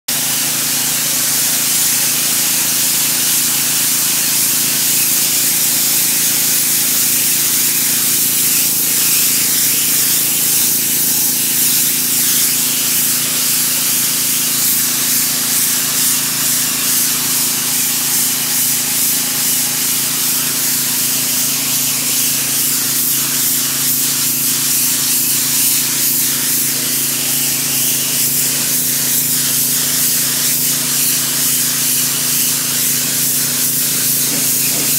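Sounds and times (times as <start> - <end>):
pressure washer spraying: 0.1 - 34.9.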